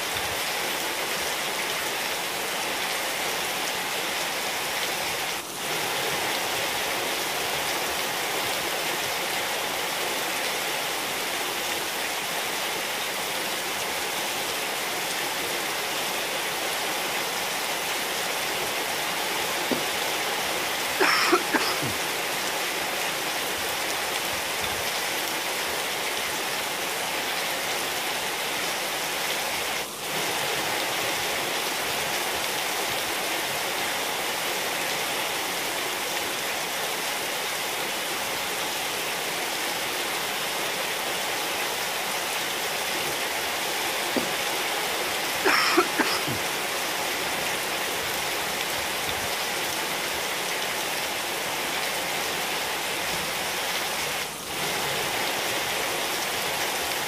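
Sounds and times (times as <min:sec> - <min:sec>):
rain on wet tiles: 0:00.0 - 0:57.0.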